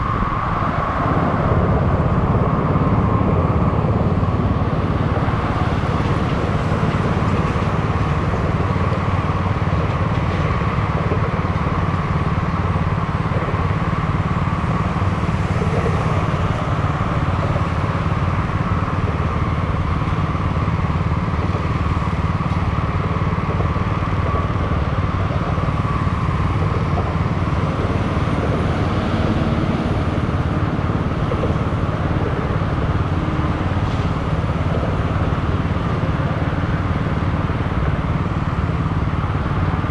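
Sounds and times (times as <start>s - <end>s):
cross traffic passing: 0.0s - 39.9s.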